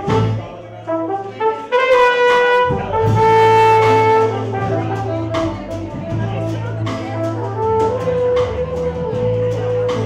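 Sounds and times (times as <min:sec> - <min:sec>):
brass horn held notes: 0:00.0 - 0:10.0
drums: 0:00.0 - 0:10.0.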